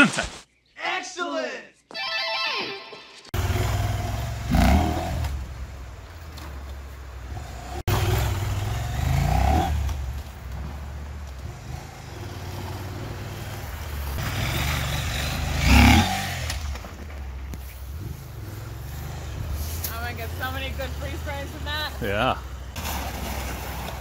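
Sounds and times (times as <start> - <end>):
wind and road noise: 3.3 - 24.0
motorcycle engine revving: 3.4 - 24.0.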